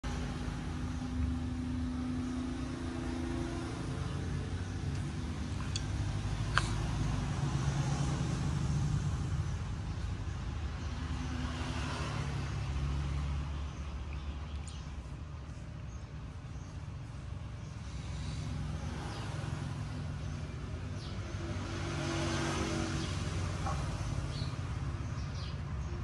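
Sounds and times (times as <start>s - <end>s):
low motor rumble: 0.0s - 11.6s, 12.3s - 21.8s.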